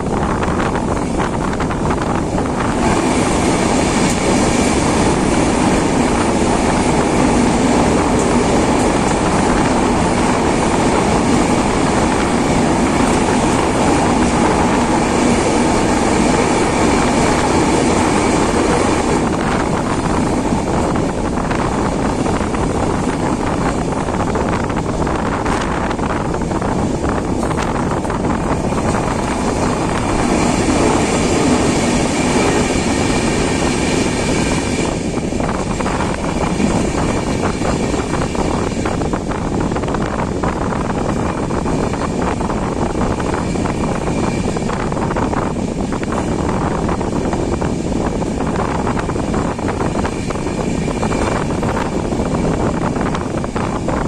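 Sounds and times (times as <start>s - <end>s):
rushing air: 0.0s - 54.0s
train wheels rumbling: 0.0s - 54.0s.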